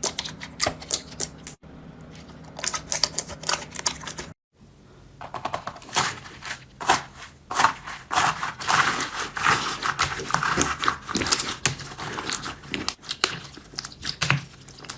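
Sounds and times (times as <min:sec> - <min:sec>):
wet squishing of slime: 0:00.0 - 0:04.4, 0:05.8 - 0:14.9.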